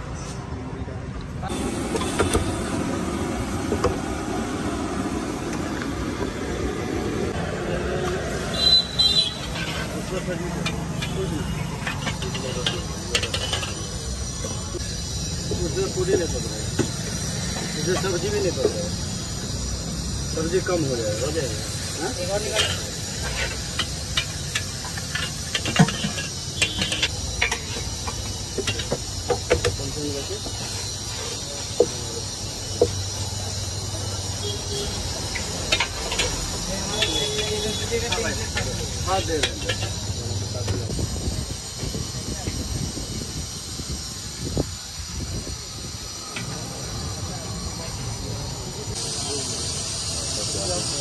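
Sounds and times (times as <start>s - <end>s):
bread deep-frying in hot oil: 7.8s - 51.0s
crackles and clicks of frying: 8.0s - 51.0s.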